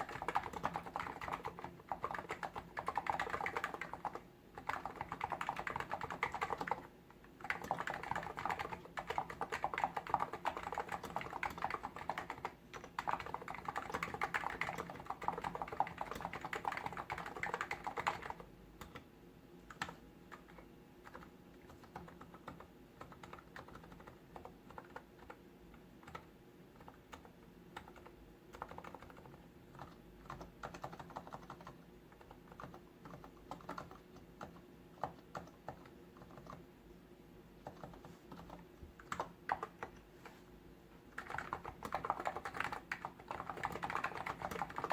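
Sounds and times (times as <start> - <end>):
keyboard typing: 0.0 - 36.7, 37.6 - 40.4, 41.1 - 44.9.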